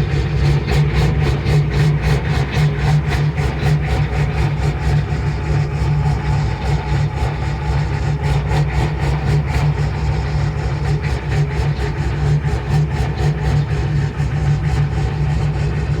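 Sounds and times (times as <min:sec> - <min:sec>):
diesel engine idling with clatter: 0:00.0 - 0:16.0.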